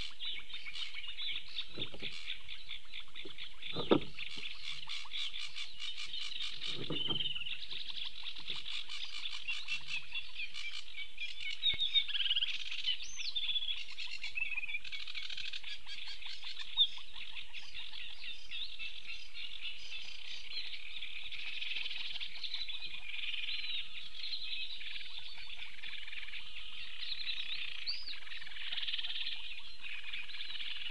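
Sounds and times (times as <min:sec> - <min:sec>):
small birds chirping and trilling: 0:00.0 - 0:30.9.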